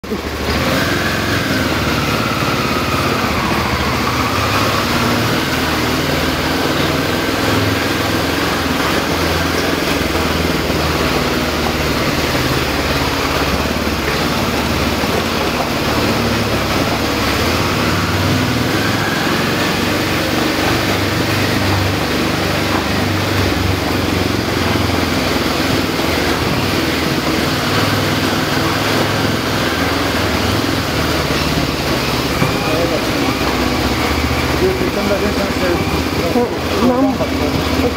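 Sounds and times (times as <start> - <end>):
motorcycle engine running: 0.0 - 37.9
road and wind noise: 0.0 - 37.9.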